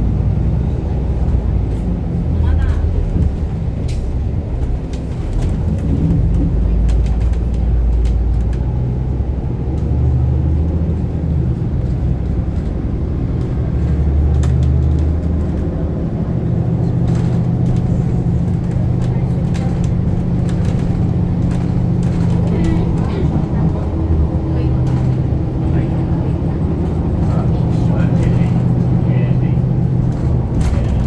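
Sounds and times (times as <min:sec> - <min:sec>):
bus engine drone: 0:00.0 - 0:31.0.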